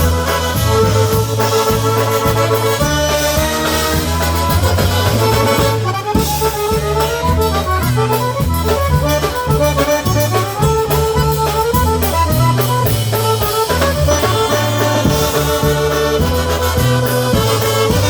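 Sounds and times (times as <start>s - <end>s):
accordion melody: 0.0s - 18.0s
polka band playing: 0.0s - 18.0s.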